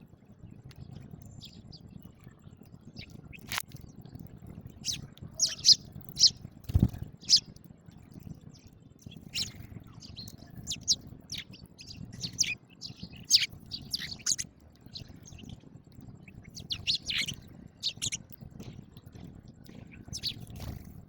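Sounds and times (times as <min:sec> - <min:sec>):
sparrows chirping: 0:00.8 - 0:07.6, 0:08.2 - 0:20.9.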